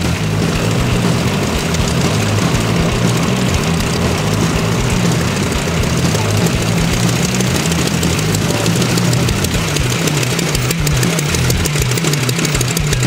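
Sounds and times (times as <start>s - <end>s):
radial plane engines idling: 0.0s - 13.0s.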